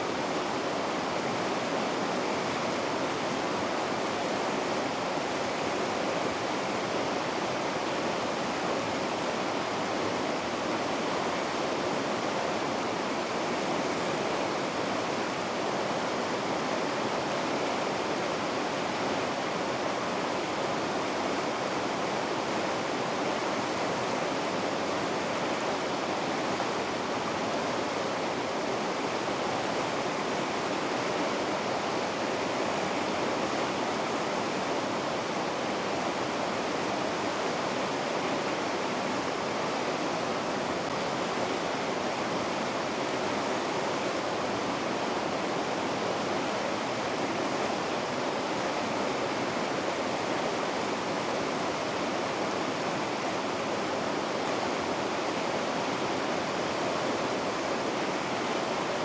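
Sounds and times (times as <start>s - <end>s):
water rushing through rapids: 0.0s - 59.0s.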